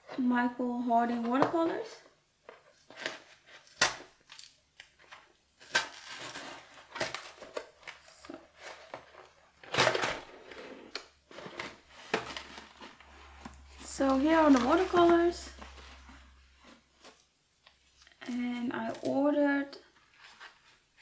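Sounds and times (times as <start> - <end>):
cardboard and paper crinkling: 1.1 - 19.2, 19.8 - 21.0.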